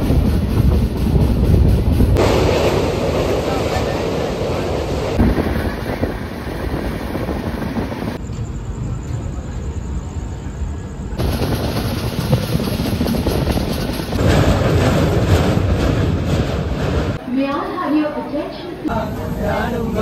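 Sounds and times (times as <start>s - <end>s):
train wheels rumbling on track: 0.0s - 20.0s
wind: 0.0s - 20.0s.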